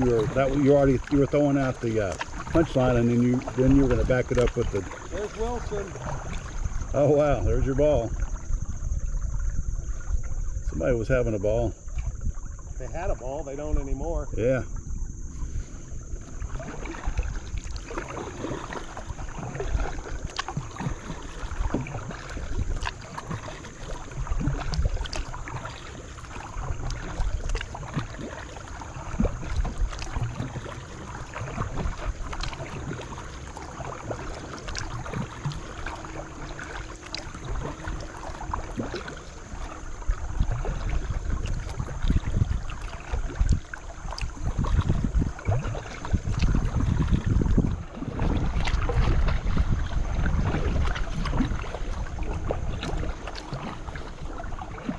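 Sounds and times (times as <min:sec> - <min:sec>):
paddle strokes in water: 0:00.0 - 0:54.9
wind rumbling on microphone: 0:00.0 - 0:54.9.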